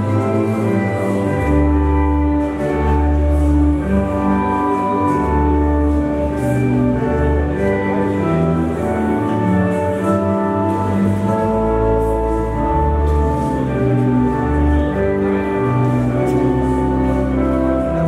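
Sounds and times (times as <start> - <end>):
slow instrumental music: 0.0 - 18.0.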